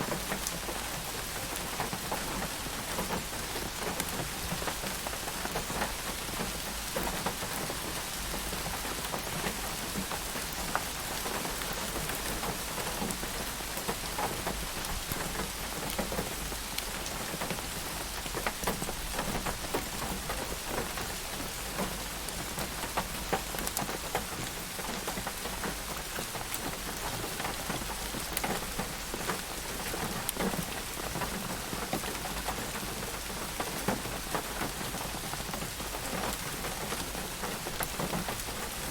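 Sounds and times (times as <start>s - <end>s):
raindrops pattering on a surface: 0.0s - 38.9s.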